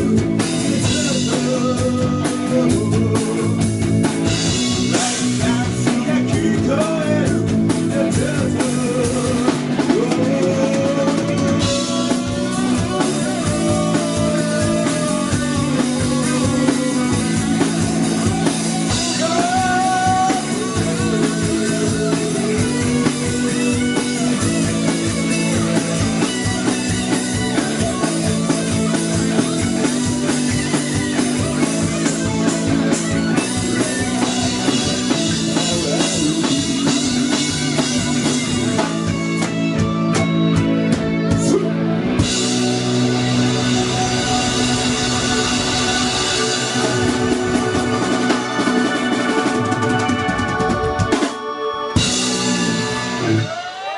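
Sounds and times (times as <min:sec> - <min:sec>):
drum kit beat: 0:00.0 - 0:53.9
gliding lead melody: 0:00.0 - 0:53.9
live rock band playing: 0:00.0 - 0:53.9.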